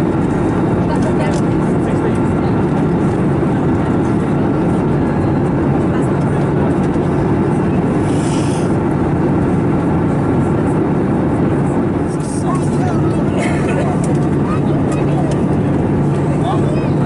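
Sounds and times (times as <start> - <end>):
airplane cabin noise: 0.0 - 17.0.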